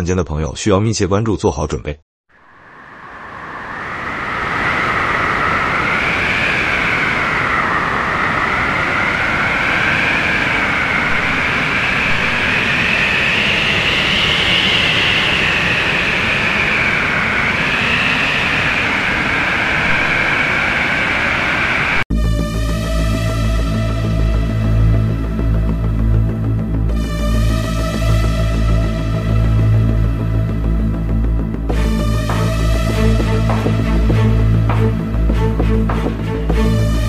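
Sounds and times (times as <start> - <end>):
storm wind roaring: 2.3 - 22.1, 22.7 - 37.0
howling wind whistle: 2.3 - 37.0.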